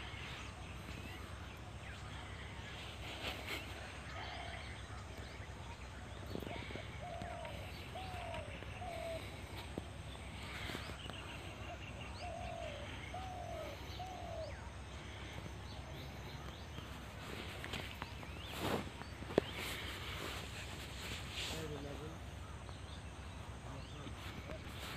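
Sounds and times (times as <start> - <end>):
bird cooing: 0.0 - 24.9.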